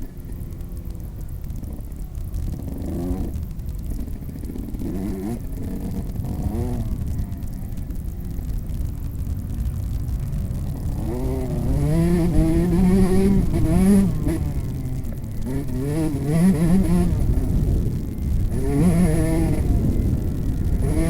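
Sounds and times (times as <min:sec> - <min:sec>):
motocross bike engine revving: 0:00.0 - 0:21.0
wind rumble on microphone: 0:00.0 - 0:21.0.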